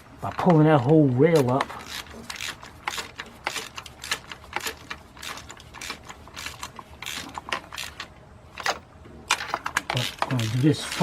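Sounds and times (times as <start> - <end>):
ratchet wrench clicking: 1.4 - 11.0.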